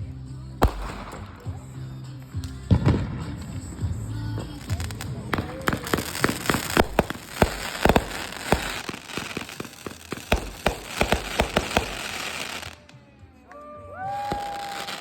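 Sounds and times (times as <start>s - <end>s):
fireworks crackling hiss: 0.6s - 2.3s, 3.2s - 12.9s, 14.3s - 15.0s
fireworks bangs and pops: 0.6s - 13.0s, 14.2s - 15.0s
faint fireworks whistles: 0.6s - 15.0s.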